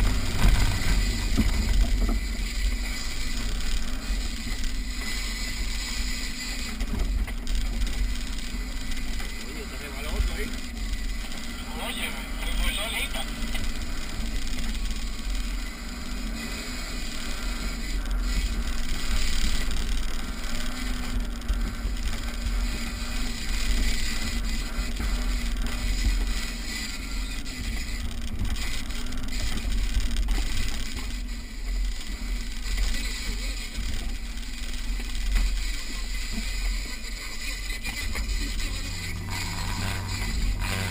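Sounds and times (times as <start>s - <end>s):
low rumble of road noise: 0.0s - 40.9s
off-road vehicle engine running: 0.0s - 40.9s.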